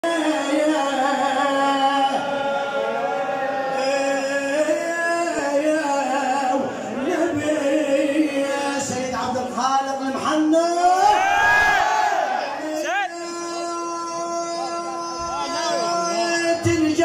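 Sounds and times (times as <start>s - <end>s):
man chanting a lament: 0.0s - 11.6s, 12.4s - 17.0s.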